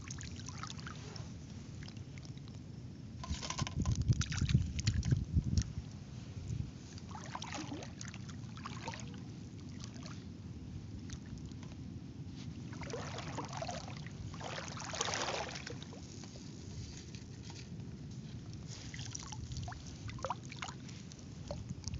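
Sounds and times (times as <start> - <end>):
water splashing and sloshing: 0.0 - 2.6, 3.2 - 10.3, 10.9 - 21.9.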